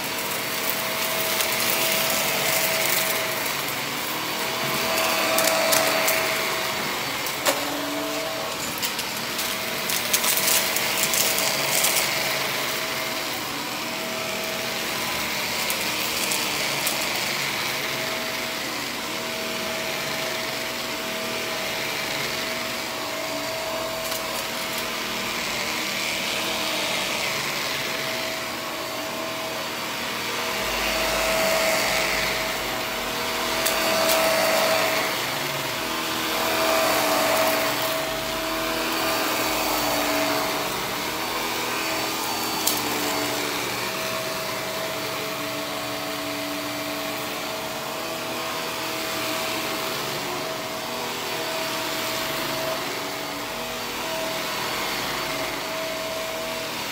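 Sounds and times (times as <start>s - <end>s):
vacuum cleaner on carpet: 0.0s - 56.9s.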